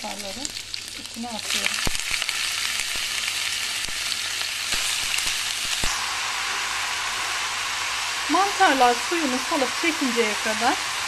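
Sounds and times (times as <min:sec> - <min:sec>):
mushrooms sizzling in a pan: 0:00.0 - 0:11.0.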